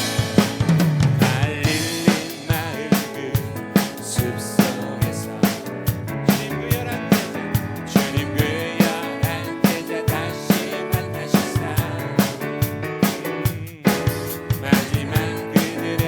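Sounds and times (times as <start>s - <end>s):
drum kit beat: 0.0s - 16.0s
worship band music: 0.0s - 16.0s.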